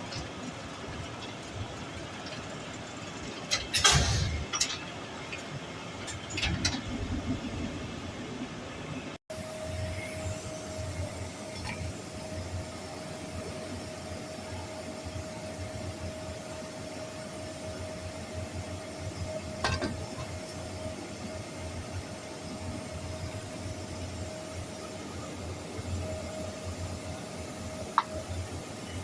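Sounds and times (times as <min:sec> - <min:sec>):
mechanical hum with high whine: 0:00.0 - 0:29.0.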